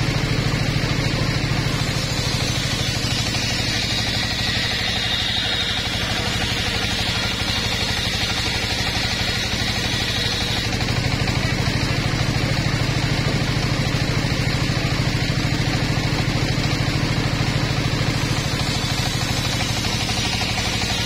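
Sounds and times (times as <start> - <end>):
circular saw bench running: 0.0 - 21.0.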